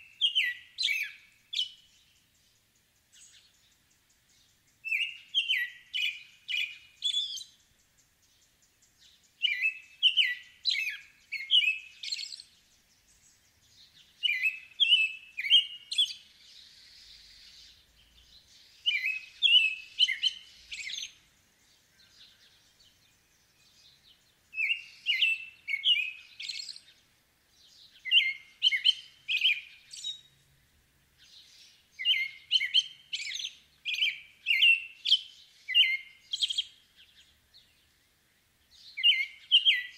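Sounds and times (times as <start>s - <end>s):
robin singing whistled phrases: 0.0s - 30.5s, 31.2s - 39.9s.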